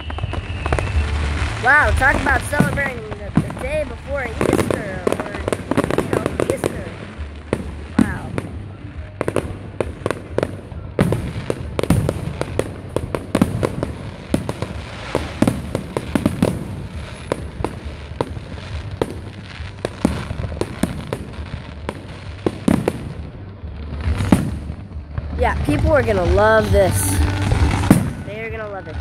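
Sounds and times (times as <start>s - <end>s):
fireworks bangs: 0.0s - 29.0s
low rumble: 0.0s - 29.0s.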